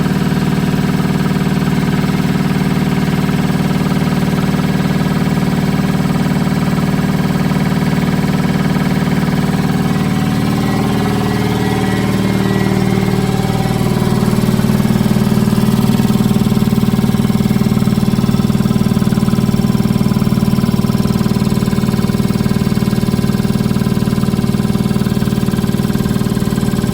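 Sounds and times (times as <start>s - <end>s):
air compressor running: 0.0s - 26.9s.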